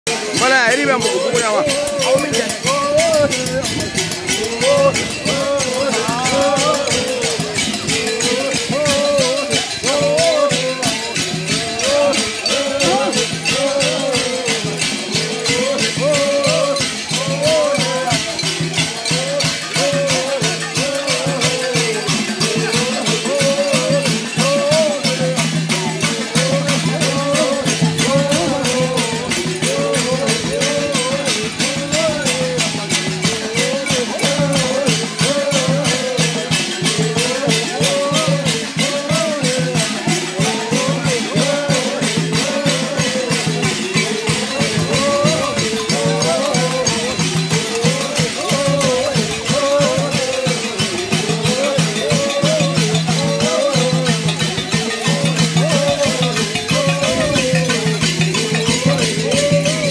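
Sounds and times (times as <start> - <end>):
fast percussive beat: 0.1 - 59.9
group chanting: 0.1 - 59.9
person singing wavering melody: 0.1 - 59.9.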